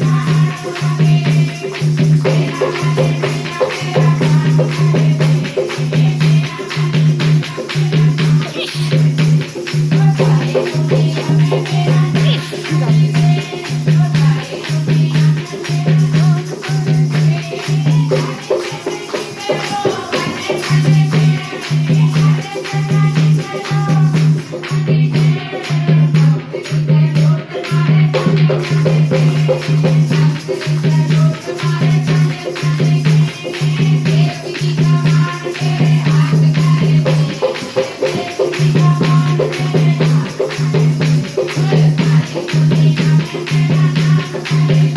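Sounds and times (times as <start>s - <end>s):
person singing devotional melody: 0.0s - 44.9s
rattling percussion: 0.0s - 44.9s.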